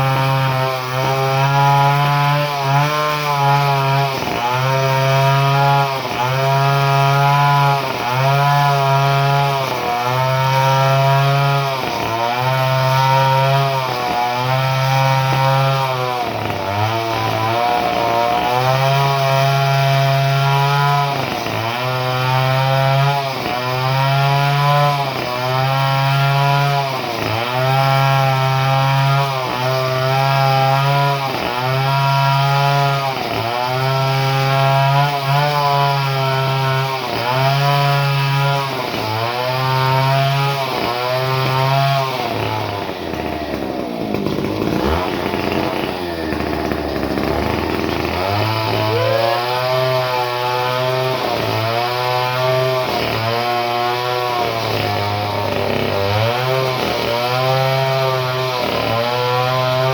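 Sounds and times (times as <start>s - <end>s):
chainsaw running at high revs: 0.0s - 59.9s.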